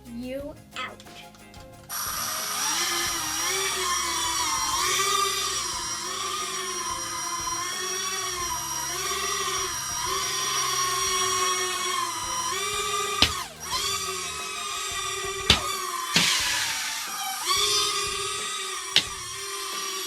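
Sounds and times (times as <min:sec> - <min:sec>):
toy quadcopter propellers whining: 0:01.0 - 0:20.0.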